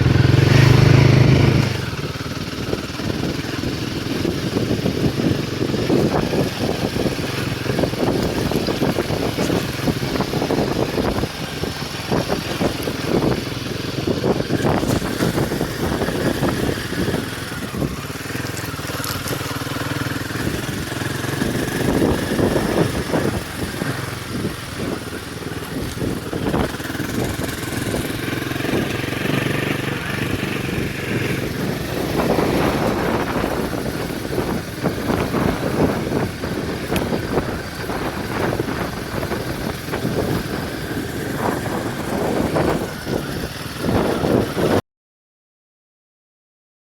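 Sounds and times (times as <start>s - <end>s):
motorcycle engine running: 0.0s - 44.8s.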